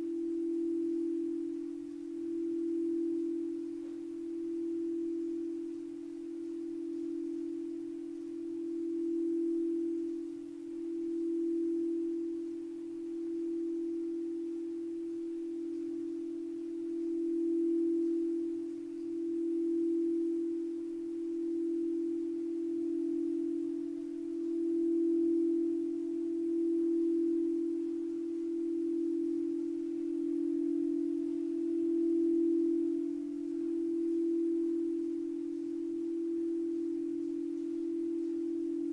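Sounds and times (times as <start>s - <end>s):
faint higher overtone: 0.0s - 38.9s
singing bowl low tone: 0.0s - 38.9s.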